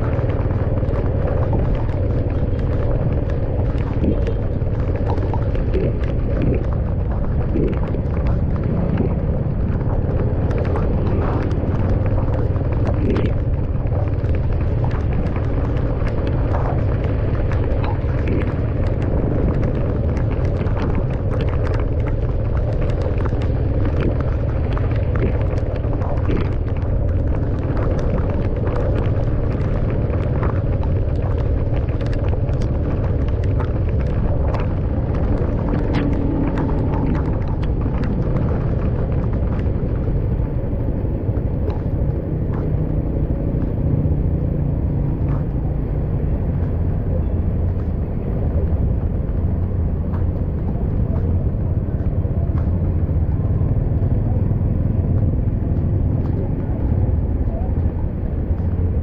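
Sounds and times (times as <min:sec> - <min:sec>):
car driving on wet road: 0:00.0 - 0:59.0.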